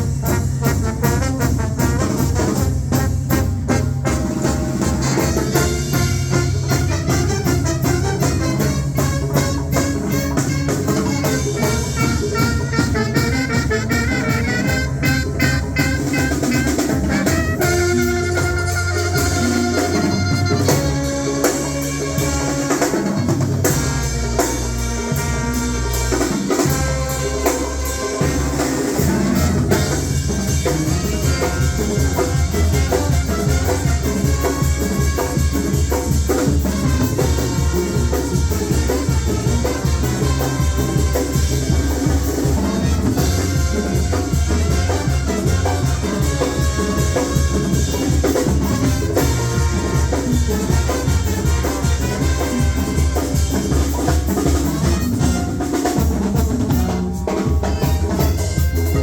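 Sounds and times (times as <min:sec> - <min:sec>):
drum kit beat: 0:00.0 - 0:59.0
loud music: 0:00.0 - 0:59.0.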